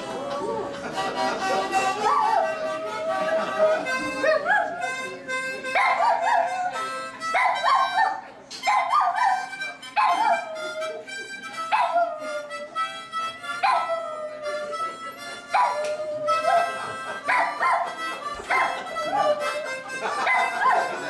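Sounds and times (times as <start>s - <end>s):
harmonica chords: 0.0s - 21.0s.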